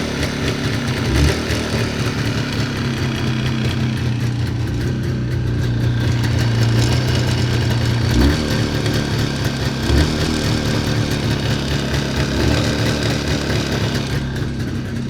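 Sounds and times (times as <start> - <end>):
knocking motorcycle engine: 0.0 - 15.0.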